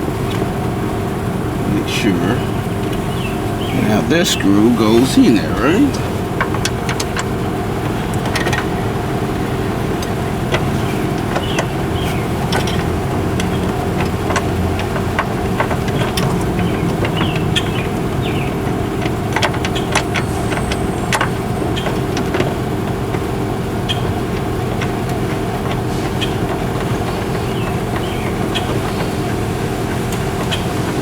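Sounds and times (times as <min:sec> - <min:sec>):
engine drone: 0:00.0 - 0:31.0.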